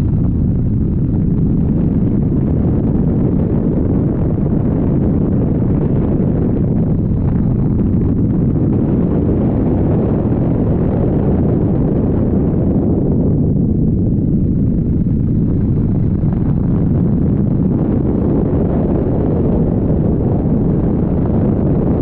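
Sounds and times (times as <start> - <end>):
helicopter engine and rotor rumble: 0.0 - 22.0
wind noise on microphone: 0.0 - 22.0.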